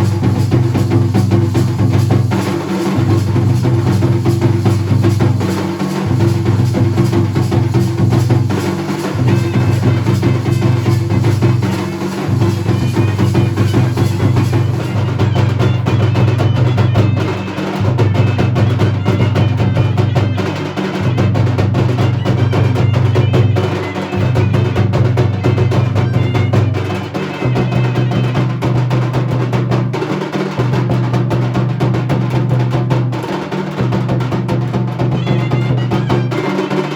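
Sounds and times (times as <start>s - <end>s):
drums played fast: 0.0s - 36.9s.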